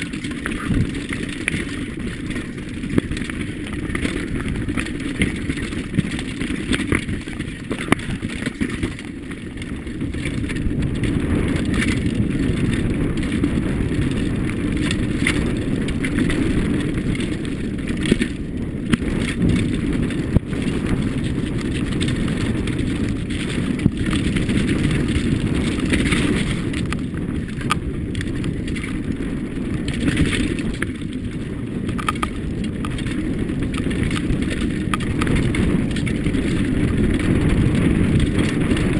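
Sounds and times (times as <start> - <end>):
bike rattling over stones: 0.0 - 38.9
bike tyres rumbling on dirt: 0.0 - 38.9
wind buffeting microphone: 0.0 - 38.9.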